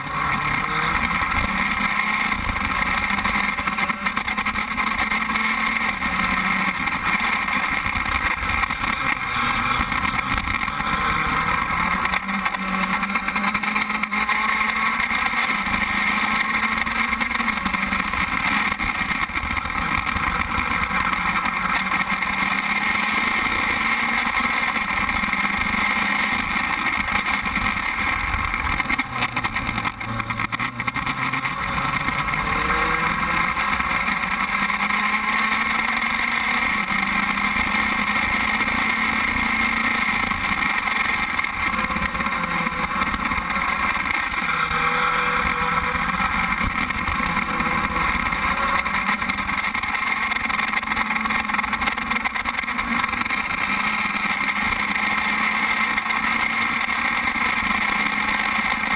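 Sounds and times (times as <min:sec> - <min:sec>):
race car engine running: 0:00.0 - 0:58.9.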